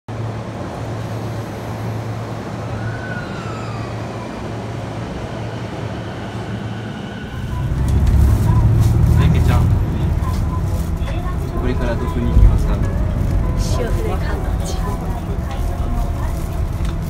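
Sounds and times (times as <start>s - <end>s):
electric train humming: 0.1s - 17.0s
station background noise: 0.1s - 17.0s.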